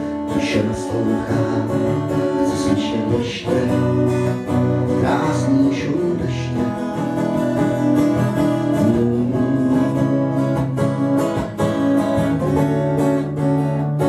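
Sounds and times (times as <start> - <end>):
acoustic guitar strummed: 0.0 - 14.0.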